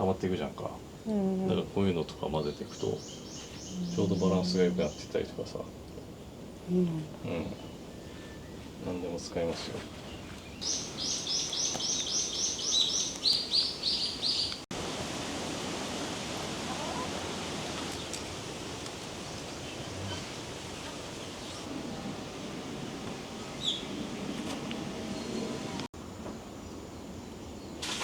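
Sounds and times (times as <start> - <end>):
outdoor ambience: 0.0 - 28.0.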